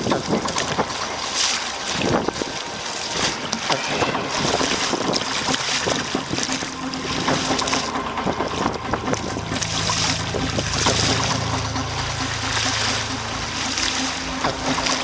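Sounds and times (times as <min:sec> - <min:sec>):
water splashing around kayak: 0:00.0 - 0:15.0.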